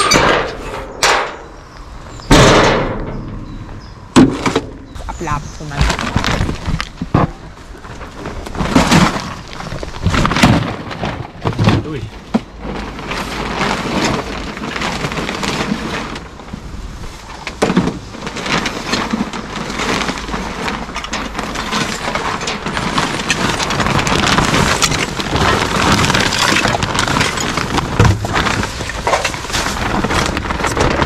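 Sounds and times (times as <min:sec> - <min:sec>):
junk clattering and crashing: 0:00.0 - 0:31.0.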